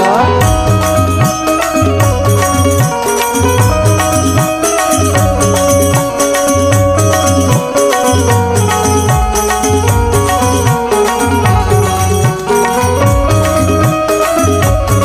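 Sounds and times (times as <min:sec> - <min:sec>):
hand drum beat: 0:00.0 - 0:15.0
keyed banjo melody: 0:00.0 - 0:15.0.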